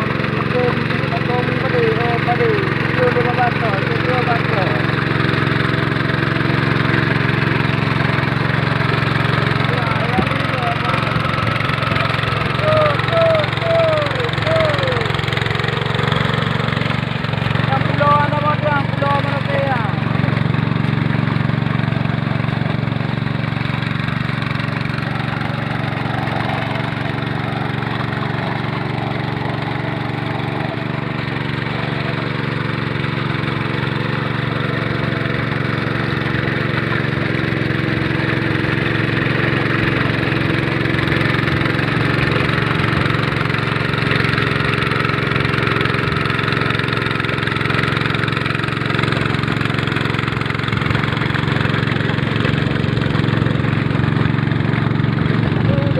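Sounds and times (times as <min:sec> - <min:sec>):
hand tractor engine running: 0:00.0 - 0:55.9.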